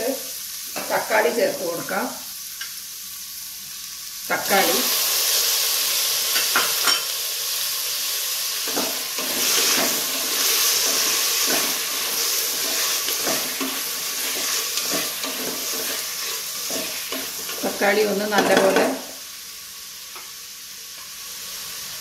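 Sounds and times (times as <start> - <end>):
onions and tomatoes sizzling in oil: 0.0 - 22.0.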